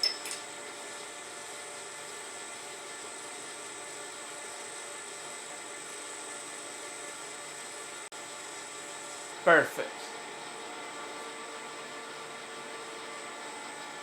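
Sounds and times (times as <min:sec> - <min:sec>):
workshop hum and hiss: 0:00.0 - 0:14.0.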